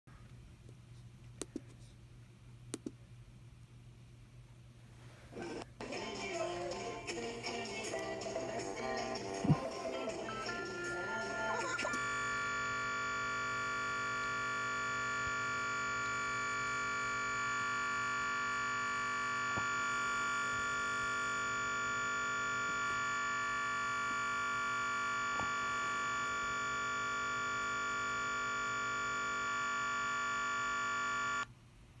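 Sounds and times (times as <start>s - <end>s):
steady buzz from speakers: 0.1s - 32.0s.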